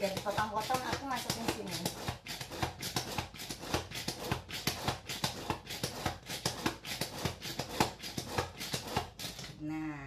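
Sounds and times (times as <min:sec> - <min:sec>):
manual food chopper clacking: 0:00.0 - 0:09.6.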